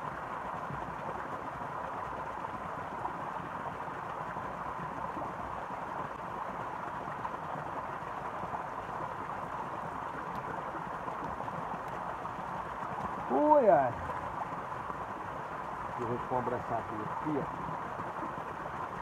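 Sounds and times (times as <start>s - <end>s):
stream running water: 0.0s - 19.0s.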